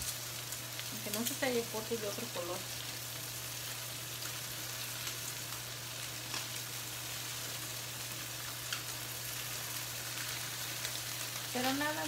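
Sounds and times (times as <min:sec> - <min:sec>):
food sizzling in oil: 0:00.0 - 0:12.0
oil popping and crackling: 0:00.0 - 0:12.0.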